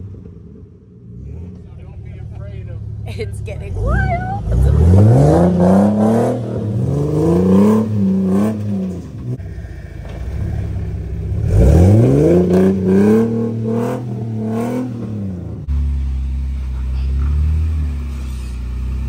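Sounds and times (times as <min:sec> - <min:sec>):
four-wheel drive engine revving: 0:00.0 - 0:19.0.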